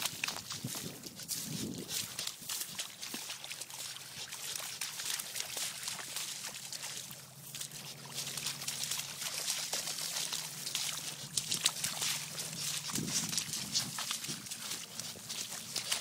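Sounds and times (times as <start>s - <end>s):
floodwater splashing and trickling: 0.0s - 16.0s.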